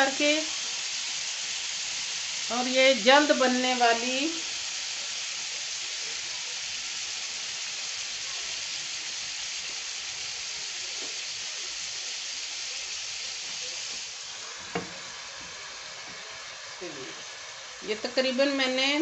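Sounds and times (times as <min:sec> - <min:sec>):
liver sizzling in a pan: 0:00.0 - 0:19.0.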